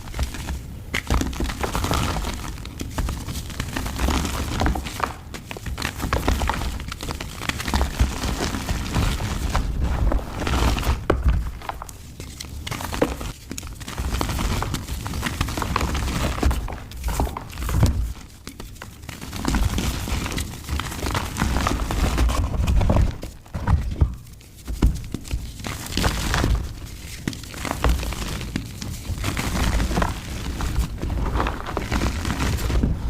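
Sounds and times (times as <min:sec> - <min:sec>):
dried mud crunching: 0:01.0 - 0:24.0, 0:24.6 - 0:33.0.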